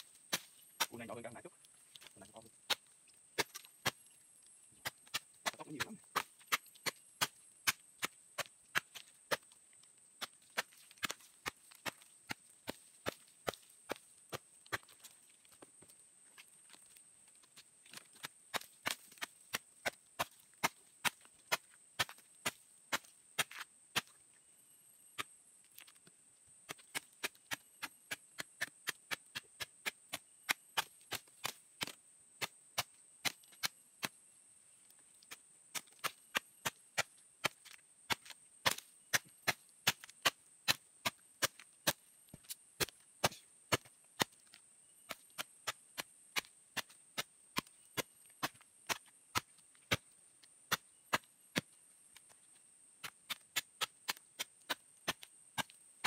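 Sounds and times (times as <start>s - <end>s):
machete chopping fern root: 0.0s - 1.4s, 2.0s - 4.1s, 4.8s - 9.5s, 10.2s - 15.1s, 17.9s - 24.2s, 26.6s - 34.2s, 35.2s - 50.1s, 50.7s - 52.4s, 53.0s - 55.8s.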